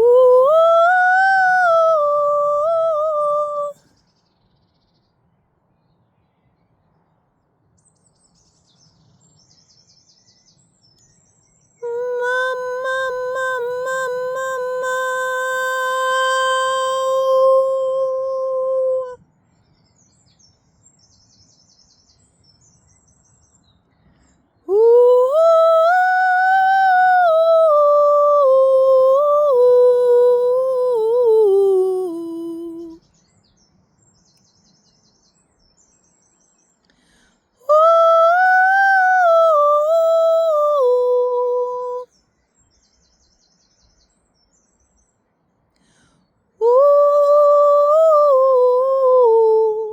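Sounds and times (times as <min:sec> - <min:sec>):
faint bird chirps: 0:00.0 - 0:49.9.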